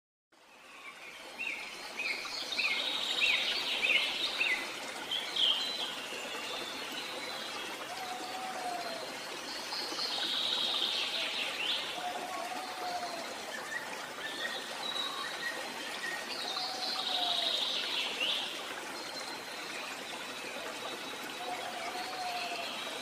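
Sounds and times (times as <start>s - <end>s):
flowing stream: 0.4s - 23.0s
songbirds chirping: 0.4s - 23.0s.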